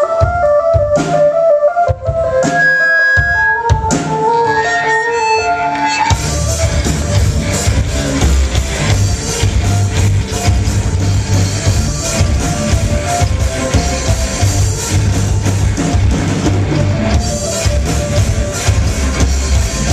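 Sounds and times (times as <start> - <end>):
rock band with drums and bass: 0.0 - 19.9.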